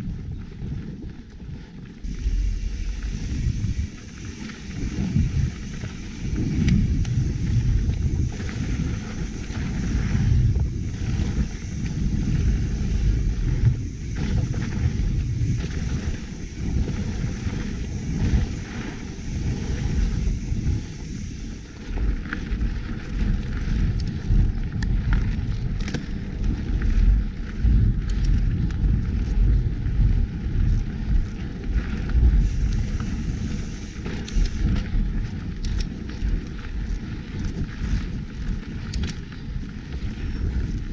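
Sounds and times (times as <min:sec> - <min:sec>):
bike rattling and clicking: 0:00.0 - 0:40.9
wind buffeting microphone: 0:00.0 - 0:40.9.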